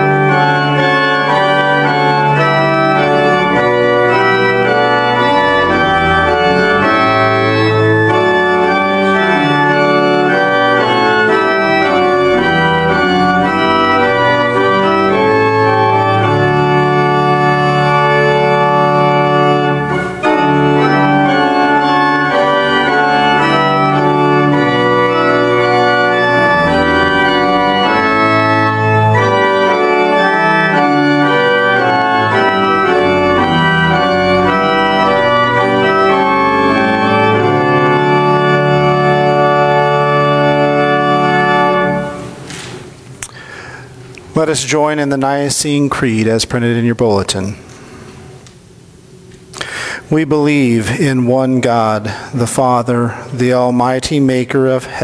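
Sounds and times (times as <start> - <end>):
pipe organ playing a hymn: 0.0 - 55.0.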